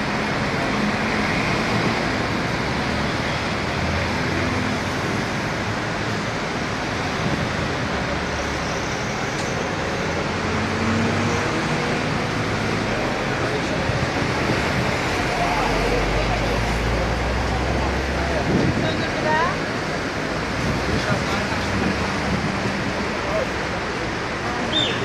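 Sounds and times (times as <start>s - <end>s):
traffic rumble and hum: 0.0s - 25.0s.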